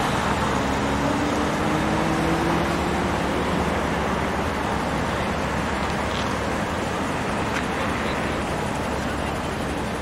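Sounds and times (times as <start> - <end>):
traffic noise: 0.0 - 10.0
vehicles driving past: 0.0 - 10.0.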